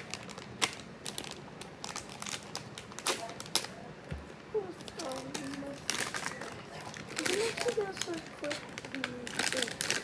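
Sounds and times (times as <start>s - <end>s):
packaging crinkling and tearing: 0.0s - 3.8s, 4.6s - 10.0s.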